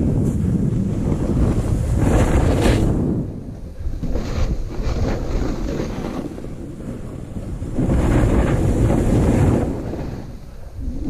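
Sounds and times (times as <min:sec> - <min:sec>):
snowboard carving through snow: 0:00.0 - 0:11.0
wind buffeting microphone: 0:00.0 - 0:11.0.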